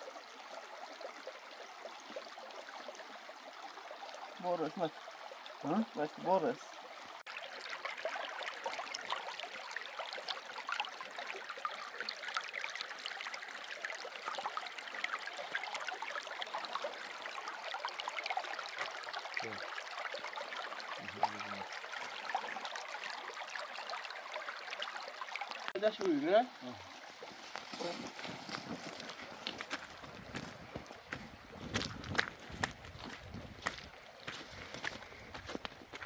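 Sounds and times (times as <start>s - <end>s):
water running and splashing: 0.0s - 36.0s.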